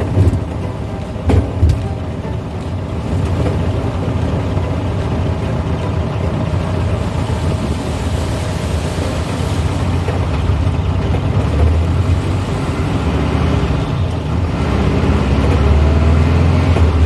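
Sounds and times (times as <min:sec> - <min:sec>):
car engine drone: 0:00.0 - 0:17.0
tyres on wet road: 0:00.0 - 0:17.0.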